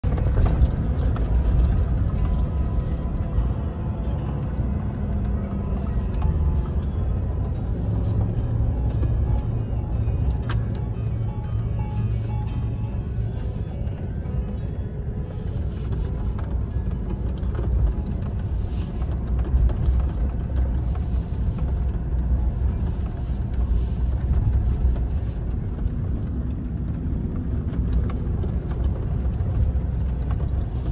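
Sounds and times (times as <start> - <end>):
tyres rumbling on gravel road: 0.0 - 30.9.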